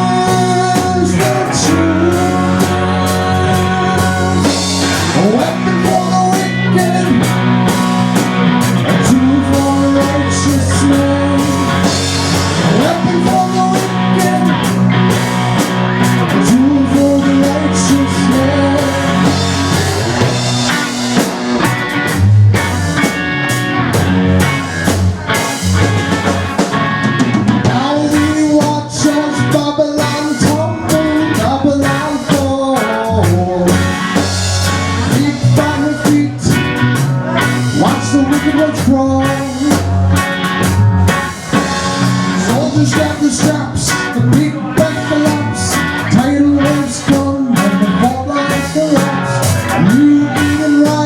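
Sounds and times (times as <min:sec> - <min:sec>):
bending guitar notes: 0:00.0 - 0:51.0
blues-rock band playing: 0:00.0 - 0:51.0.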